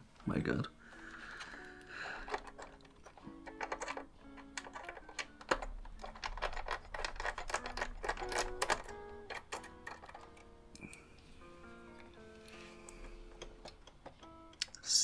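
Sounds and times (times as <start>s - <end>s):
light background music: 0.0s - 15.0s
screwdriver clicking on plastic casing: 0.8s - 14.7s.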